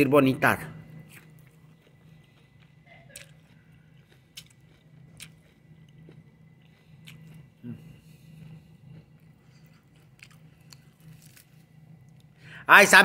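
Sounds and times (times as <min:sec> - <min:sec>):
chewing orange segments: 0:01.0 - 0:12.3.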